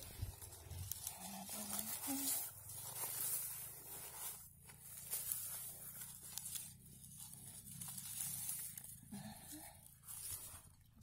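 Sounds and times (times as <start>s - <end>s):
pine cones rustling and crackling: 0.0s - 11.0s.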